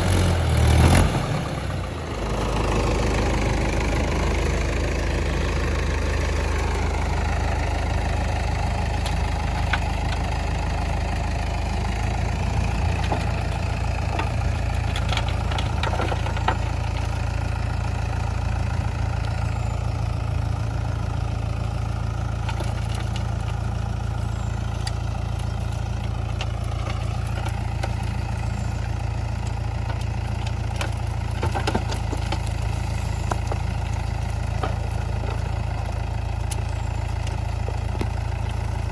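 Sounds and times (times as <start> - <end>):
diesel engines idling: 0.0 - 38.9.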